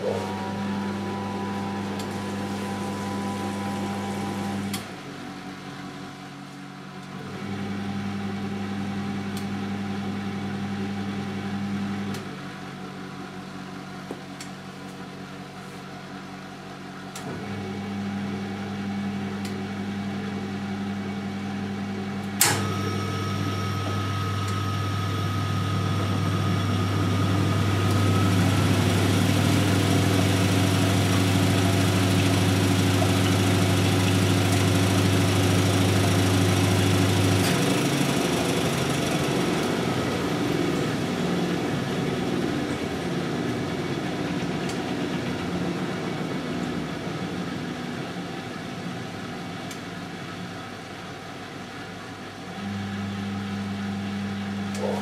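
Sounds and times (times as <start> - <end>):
washing machine drum motor humming: 0.0 - 15.4, 16.0 - 55.0
washing machine spinning with whine: 0.0 - 55.0.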